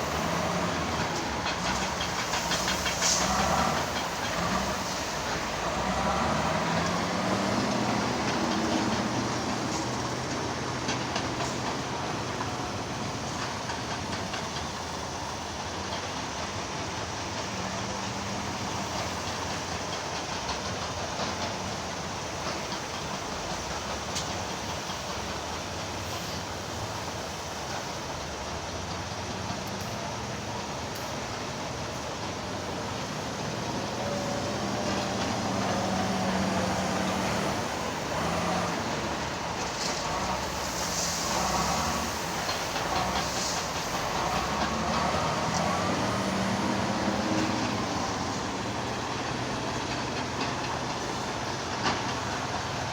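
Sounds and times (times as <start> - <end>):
diesel machinery rumbling: 0.0 - 52.9.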